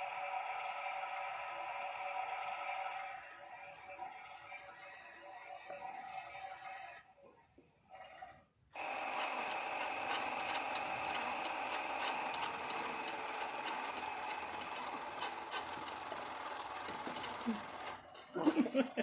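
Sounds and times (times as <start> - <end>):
toy washing machine whirring: 0.0 - 19.0.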